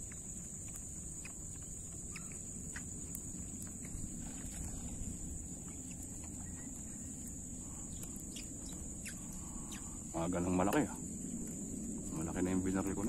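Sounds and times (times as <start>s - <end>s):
faint chirps and clicks: 0.0s - 12.2s
high-pitched insect drone: 0.0s - 13.0s
low wind rumble: 0.0s - 13.0s.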